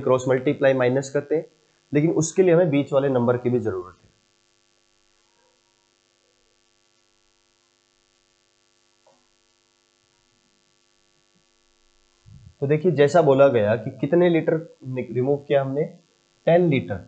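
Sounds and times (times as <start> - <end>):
faint mains hum: 0.0 - 17.0.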